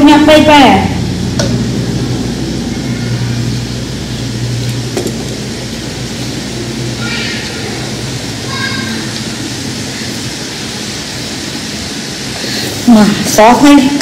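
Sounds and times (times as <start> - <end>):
even hiss: 0.0 - 14.0
steady low hum: 0.0 - 14.0.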